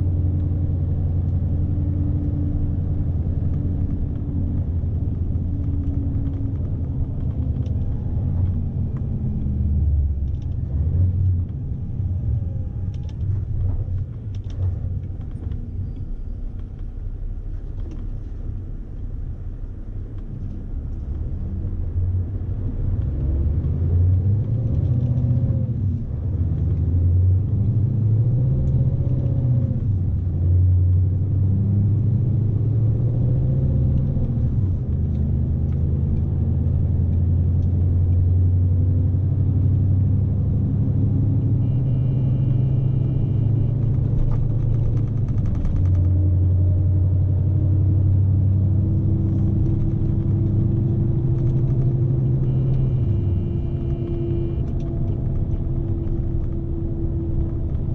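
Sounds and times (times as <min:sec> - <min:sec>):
truck diesel engine drone: 0:00.0 - 0:57.9.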